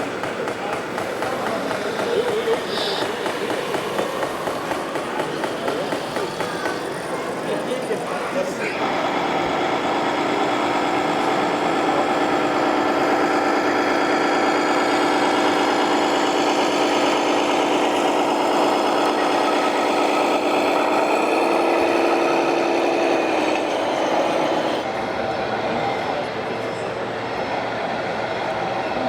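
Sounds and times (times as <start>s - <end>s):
toy truck engine hum: 0.0s - 25.1s.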